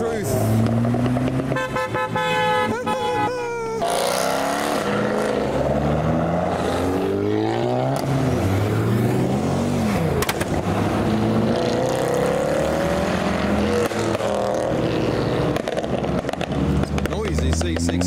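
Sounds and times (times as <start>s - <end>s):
car engines revving past: 0.0s - 3.0s, 3.8s - 18.0s.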